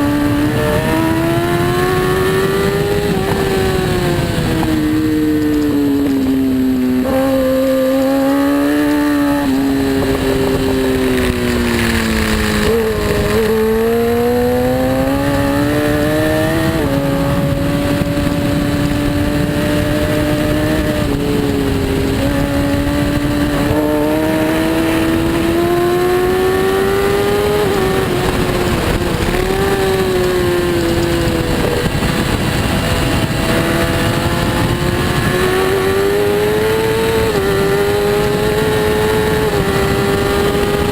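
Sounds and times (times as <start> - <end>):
motorcycle racing engine: 0.0 - 40.9.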